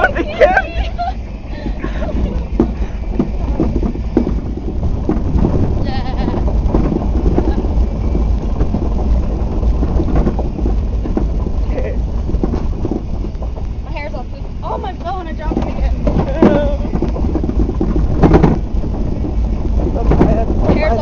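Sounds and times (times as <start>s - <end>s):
moving truck rumble: 0.0s - 21.0s
wind buffeting microphone: 0.0s - 21.0s.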